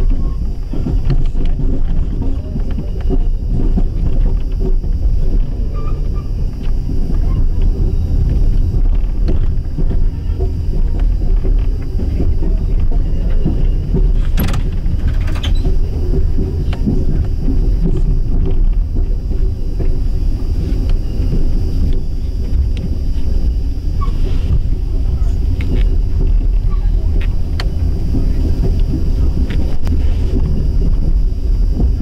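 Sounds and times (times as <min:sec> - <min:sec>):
train car rumbling over rails: 0:00.0 - 0:32.0.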